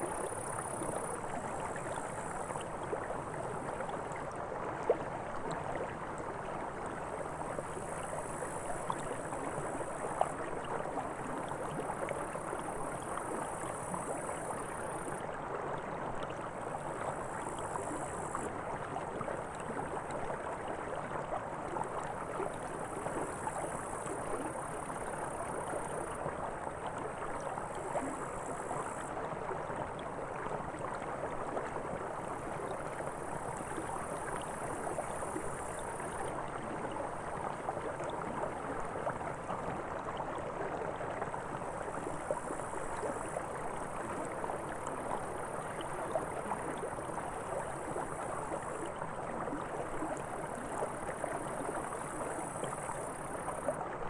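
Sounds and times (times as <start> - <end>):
creek babbling and gurgling: 0.0 - 54.0.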